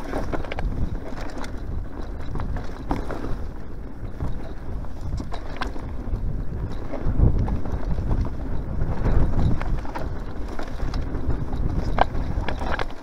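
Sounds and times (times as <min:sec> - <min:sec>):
bike clicks and rattles: 0:00.0 - 0:13.0
bike rolling over bumpy grass: 0:00.0 - 0:13.0
wind rumbling on microphone: 0:00.0 - 0:13.0.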